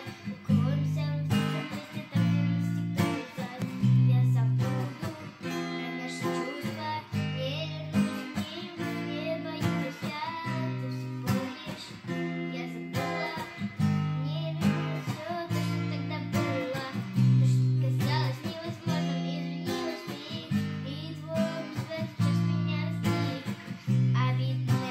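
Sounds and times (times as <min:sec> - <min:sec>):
acoustic guitar strumming: 0:00.0 - 0:24.9
girl singing: 0:00.0 - 0:24.9.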